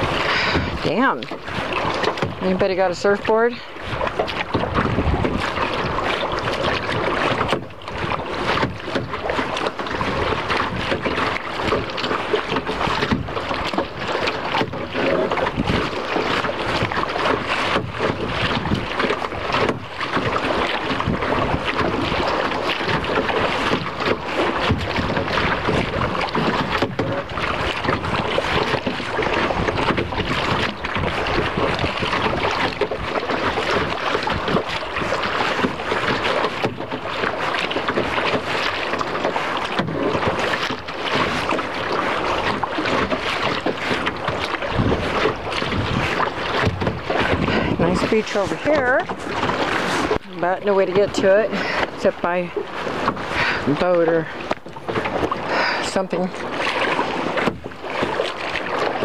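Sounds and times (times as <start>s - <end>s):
water splashing against kayak hull: 0.0s - 59.0s
wind buffeting microphone: 0.0s - 59.0s.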